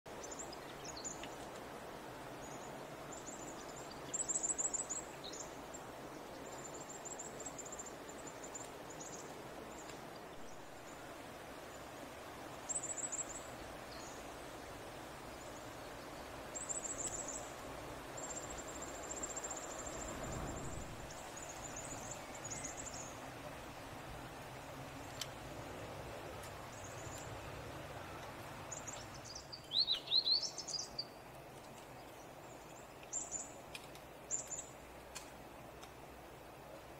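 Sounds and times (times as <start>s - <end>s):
steady soft hiss: 0.1s - 36.9s.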